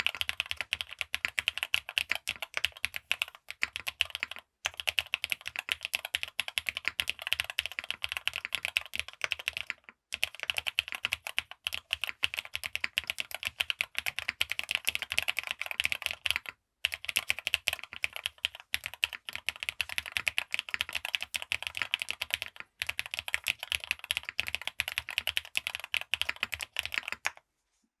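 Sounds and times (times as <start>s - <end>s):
mechanical keyboard typing: 0.0s - 27.4s.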